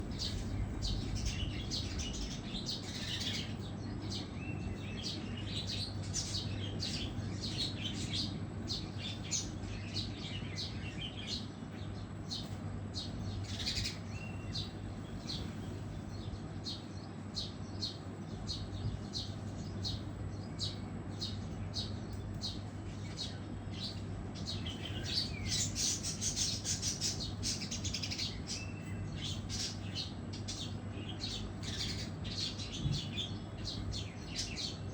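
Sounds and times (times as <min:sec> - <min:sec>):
small birds chirping: 0:00.0 - 0:34.9
steady low hum: 0:00.0 - 0:34.9.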